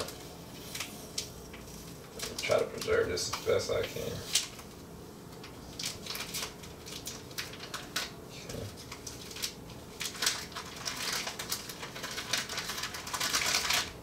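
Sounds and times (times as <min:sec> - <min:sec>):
plastic shrink wrap crinkling: 0:00.0 - 0:14.0.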